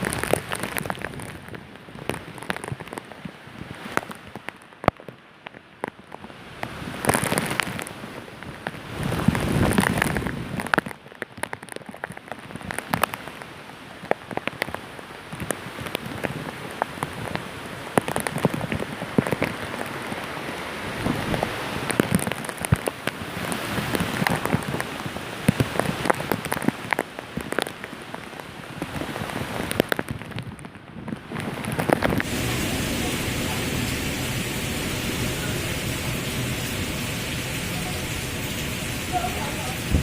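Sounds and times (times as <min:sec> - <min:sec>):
heavy rain beating on a surface: 0:00.0 - 0:40.0.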